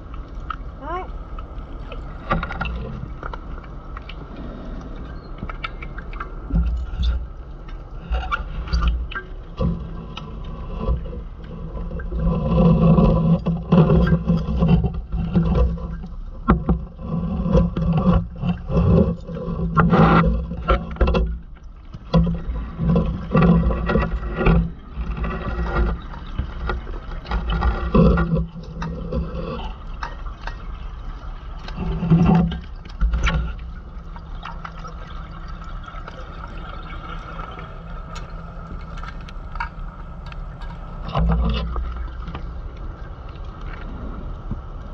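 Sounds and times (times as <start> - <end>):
low underwater rumble: 0.0 - 44.9.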